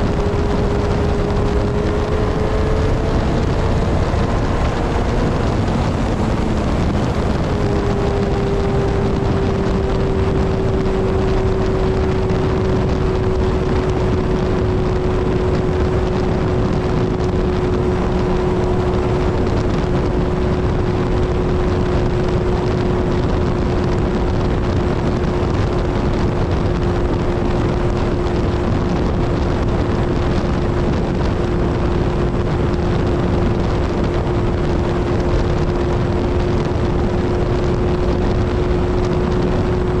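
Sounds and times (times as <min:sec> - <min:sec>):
motorcycle engine at highway speed: 0:00.0 - 0:40.0
wind rushing noise: 0:00.0 - 0:40.0.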